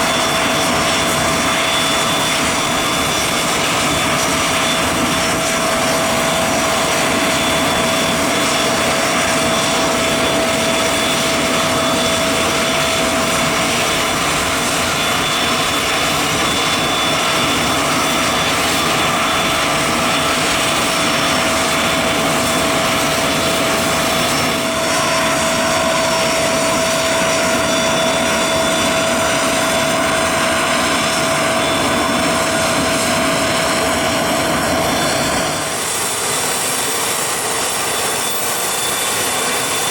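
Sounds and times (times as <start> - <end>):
aircraft engines running: 0.0 - 39.9.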